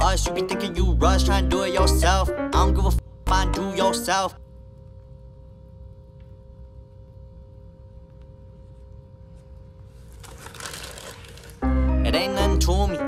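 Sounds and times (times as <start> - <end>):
low hum with faint whine: 0.0 - 13.0.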